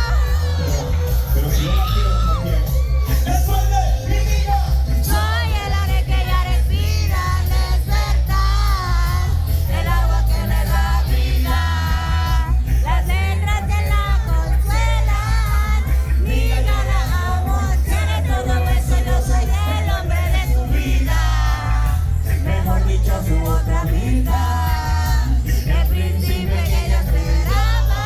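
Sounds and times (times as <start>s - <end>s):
heavy bass music: 0.0s - 28.0s.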